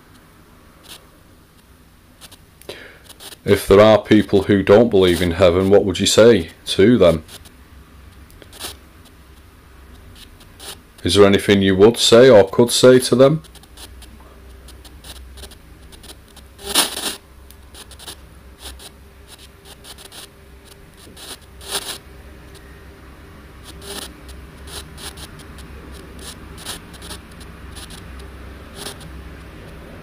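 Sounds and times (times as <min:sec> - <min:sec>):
crackling radio static: 0:00.0 - 0:30.0
steady low hum: 0:00.0 - 0:30.0.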